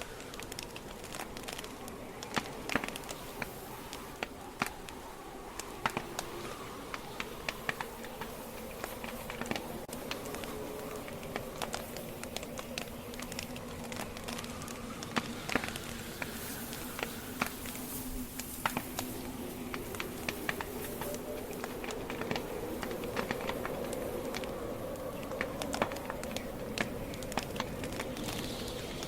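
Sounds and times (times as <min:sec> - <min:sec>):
campfire crackling and popping: 0:00.0 - 0:29.0
faint whistle from burning wood: 0:00.0 - 0:29.0
fire hissing: 0:00.0 - 0:29.0.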